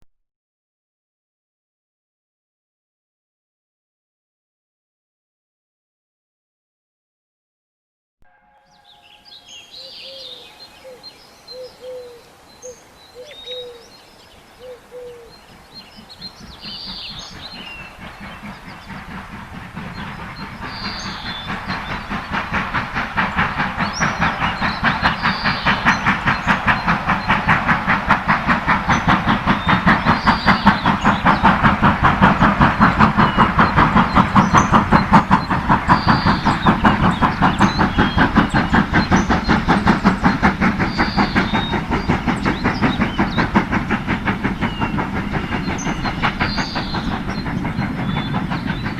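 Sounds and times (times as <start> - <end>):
train approaching: 8.3 - 48.9
birds calling: 8.7 - 48.9.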